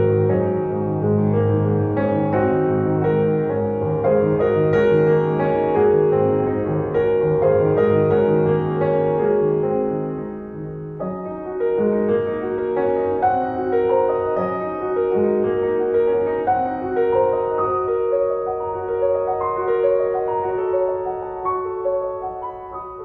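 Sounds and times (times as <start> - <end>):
slow gentle piano music: 0.0 - 23.0.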